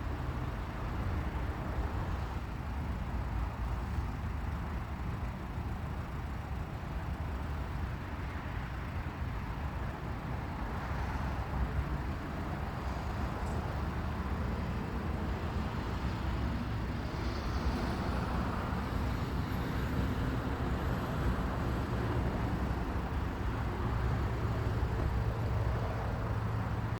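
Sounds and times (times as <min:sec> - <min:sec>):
outdoor rumble and hiss: 0:00.0 - 0:26.9.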